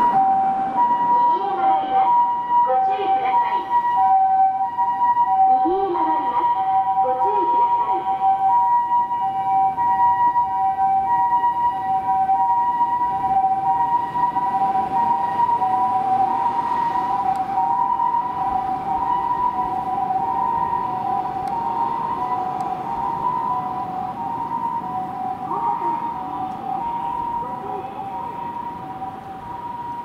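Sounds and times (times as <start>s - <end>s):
two-tone ambulance siren: 0.0s - 30.0s.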